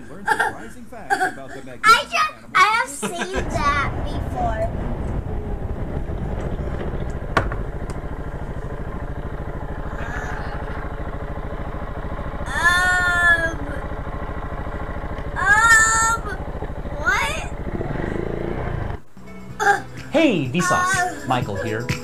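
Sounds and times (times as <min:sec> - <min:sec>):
dirt bike engine running: 0:02.7 - 0:22.0.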